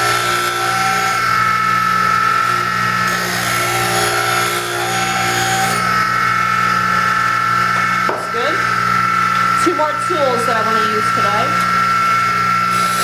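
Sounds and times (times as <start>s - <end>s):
bench grinder motor hum: 0.0s - 13.0s.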